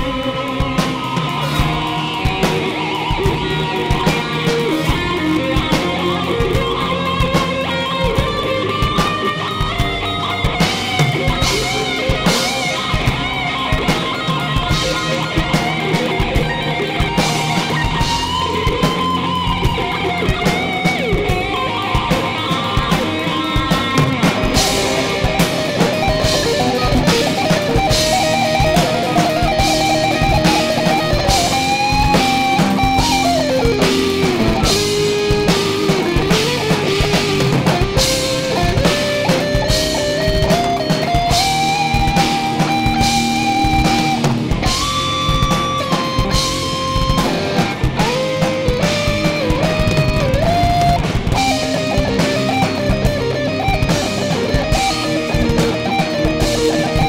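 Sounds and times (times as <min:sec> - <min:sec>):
live rock band playing: 0:00.0 - 0:57.0
sliding lead guitar line: 0:00.0 - 0:57.0.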